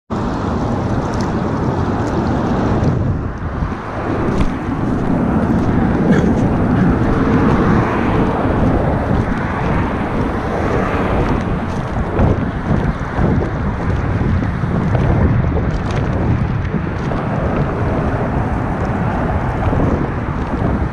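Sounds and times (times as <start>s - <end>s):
highway traffic: 0.1s - 20.9s
wind buffeting microphone: 0.1s - 20.9s.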